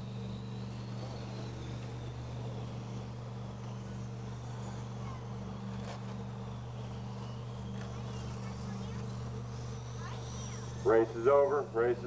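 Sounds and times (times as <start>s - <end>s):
electric toy trucks whining: 0.0s - 12.0s
steady low hum: 0.0s - 12.0s.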